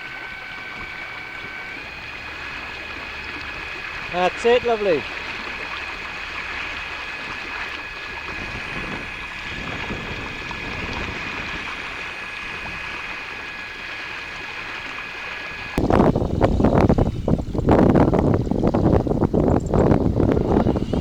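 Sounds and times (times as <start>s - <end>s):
high motor whine: 0.0s - 21.0s
water rushing along hull: 0.0s - 21.0s.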